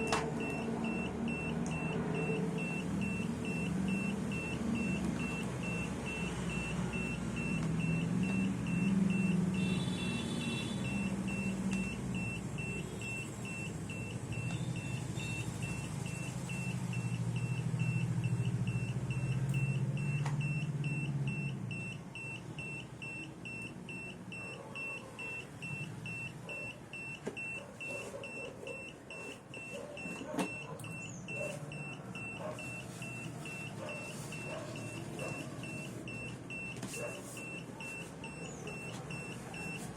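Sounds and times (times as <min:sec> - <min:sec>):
alarm beeping rapidly: 0:00.0 - 0:39.8.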